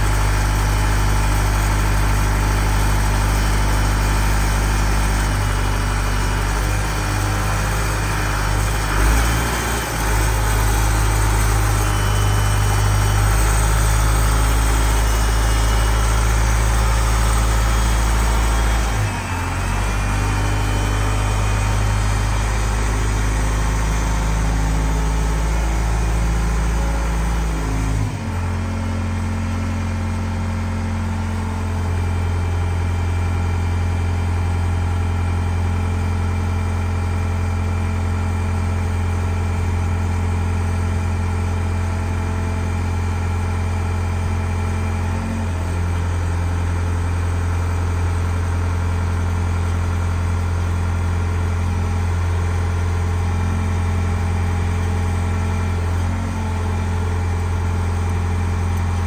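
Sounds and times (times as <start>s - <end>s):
diesel engine running: 0.0s - 59.0s
digger hydraulics working: 0.0s - 59.0s.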